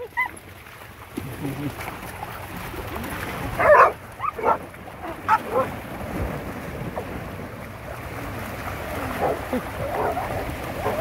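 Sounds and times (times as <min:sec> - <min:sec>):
dogs splashing in water: 0:00.0 - 0:11.0
small waves lapping: 0:00.0 - 0:11.0.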